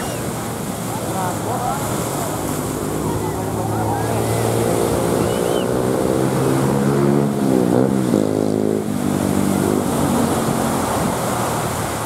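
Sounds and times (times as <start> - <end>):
waves: 0.0 - 12.0
wind: 0.0 - 12.0
outboard motor running hard: 0.7 - 12.0.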